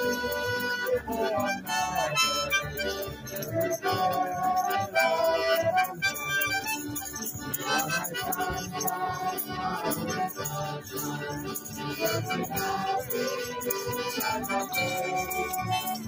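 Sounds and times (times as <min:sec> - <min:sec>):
held melody notes: 0:00.0 - 0:16.0.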